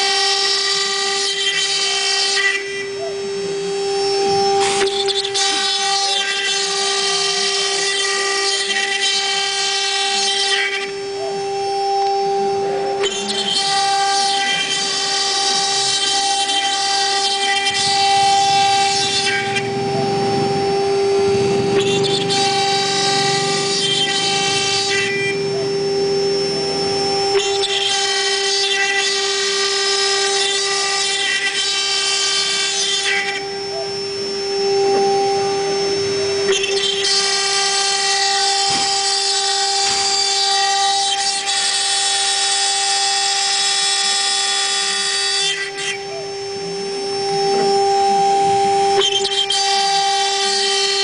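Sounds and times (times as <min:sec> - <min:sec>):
cnc router spindle whine: 0:00.0 - 0:51.0.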